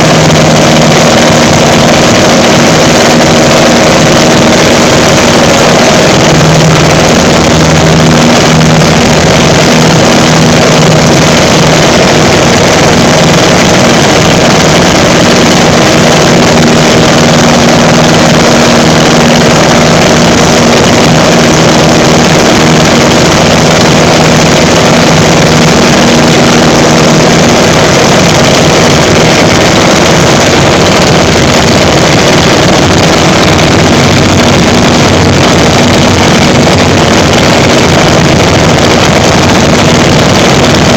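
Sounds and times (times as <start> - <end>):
aircraft engine running: 0.0 - 40.9
propeller and wind noise: 0.0 - 40.9
wind buffeting microphone: 0.0 - 40.9.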